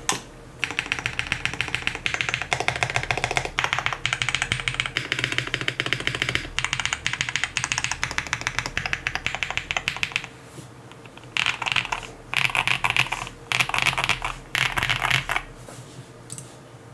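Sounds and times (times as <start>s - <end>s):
fast typing on mechanical keyboard: 0.6s - 10.3s, 11.0s - 15.5s.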